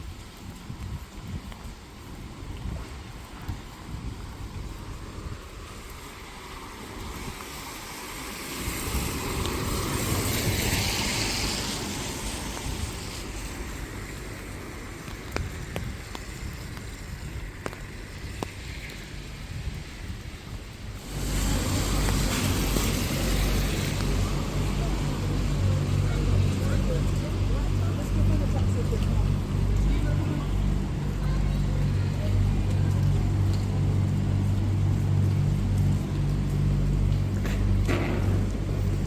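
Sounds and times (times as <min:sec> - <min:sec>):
deep traffic rumble: 0:00.0 - 0:39.0
vehicle tyre hiss on wet road: 0:00.0 - 0:39.0.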